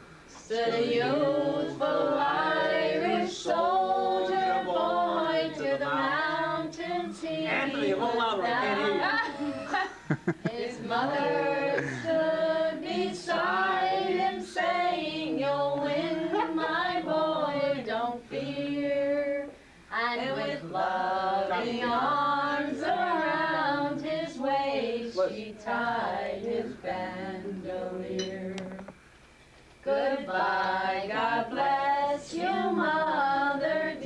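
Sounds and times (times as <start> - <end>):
group singing unaccompanied: 0.3 - 29.0, 29.8 - 34.0.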